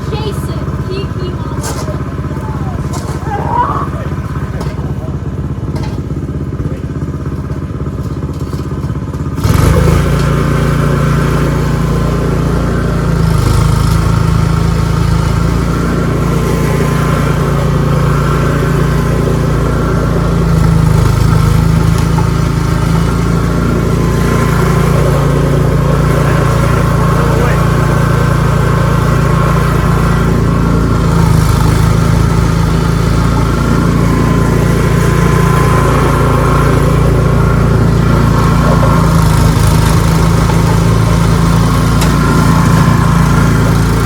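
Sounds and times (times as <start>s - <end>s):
snowblower engine running: 0.0s - 44.0s.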